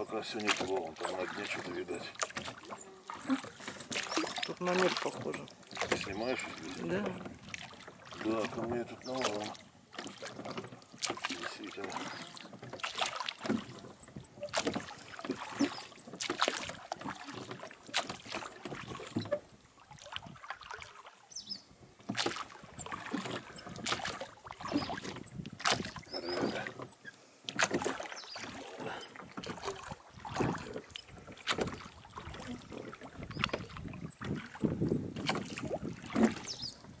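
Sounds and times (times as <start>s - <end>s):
oars splashing in water: 0.0s - 37.0s.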